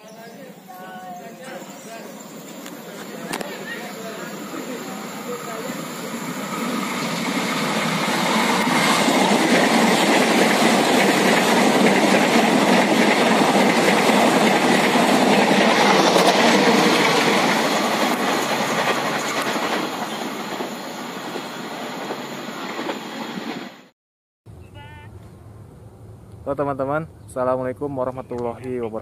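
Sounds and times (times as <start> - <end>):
electric train passing: 0.0 - 23.9, 24.8 - 27.7.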